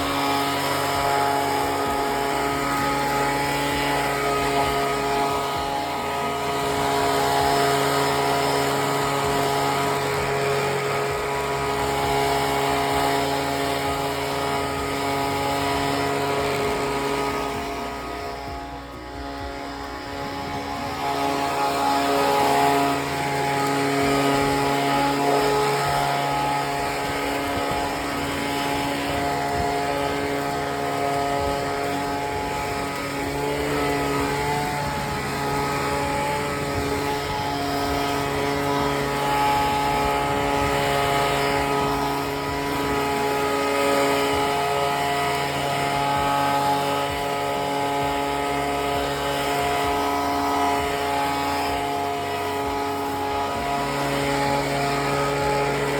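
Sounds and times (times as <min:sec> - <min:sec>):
blower engine running: 0:00.0 - 0:55.9.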